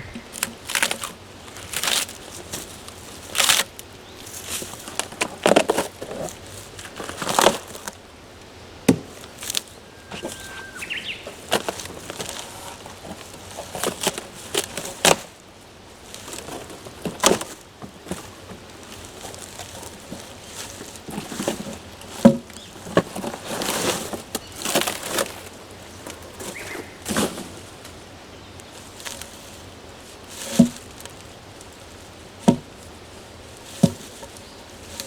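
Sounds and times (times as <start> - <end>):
branches and leaves rustling: 0.0 - 35.0.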